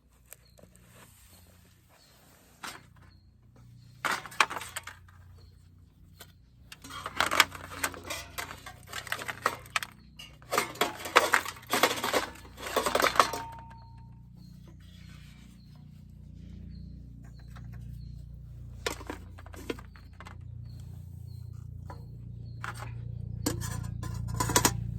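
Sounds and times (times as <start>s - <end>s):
metal items clinking and rattling: 2.6s - 20.8s, 21.5s - 24.9s.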